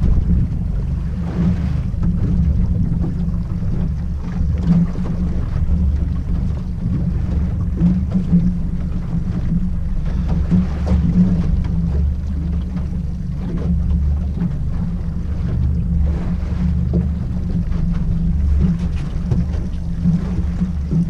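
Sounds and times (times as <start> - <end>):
outboard motor droning: 0.0 - 21.0
water noise: 0.0 - 21.0
wind: 0.0 - 21.0.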